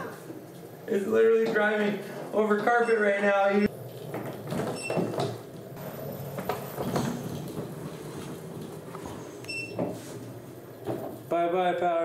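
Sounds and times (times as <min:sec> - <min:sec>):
wheels rolling on tile: 0:00.0 - 0:02.8, 0:03.7 - 0:11.4.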